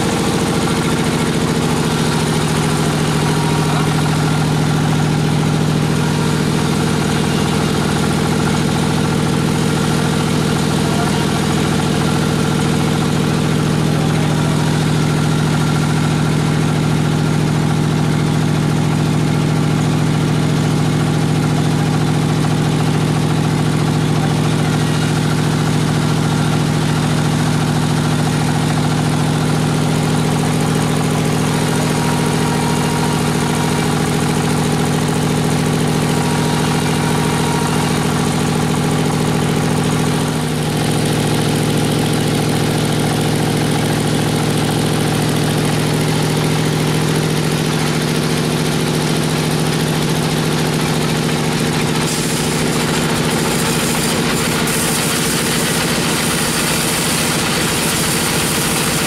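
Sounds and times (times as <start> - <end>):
band sawmill drone: 0.0 - 17.5, 23.5 - 48.2, 50.6 - 59.0.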